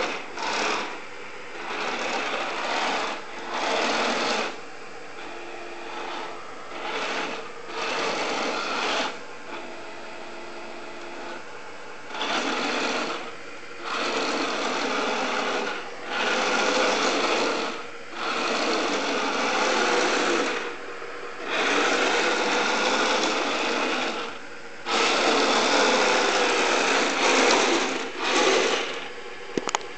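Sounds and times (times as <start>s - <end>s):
model tank motors whirring: 0.0s - 4.6s, 5.2s - 9.8s, 12.1s - 29.8s.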